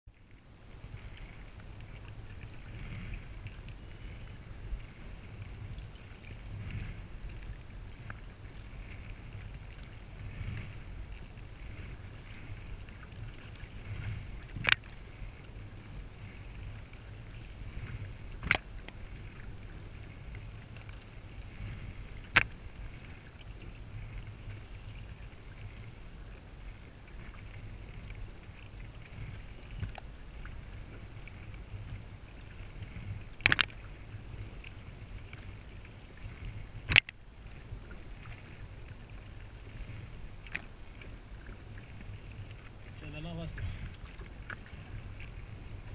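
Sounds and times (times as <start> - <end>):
paddle swishing through water: 0.1 - 45.9
wind rumble on microphone: 0.1 - 45.9.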